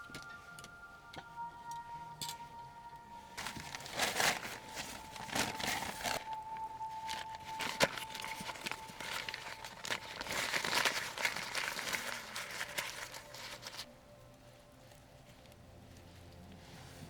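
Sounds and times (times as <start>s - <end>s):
crinkling rustling handling noise: 3.3s - 17.0s.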